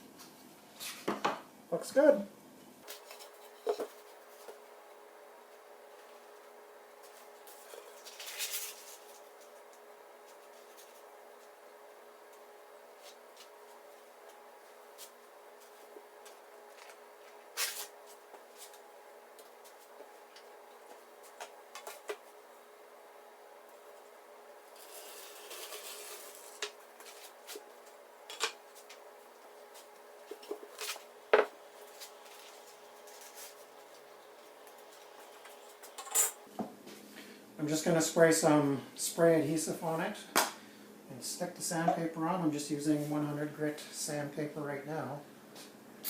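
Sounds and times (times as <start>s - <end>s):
faint hum: 1.5s - 46.0s.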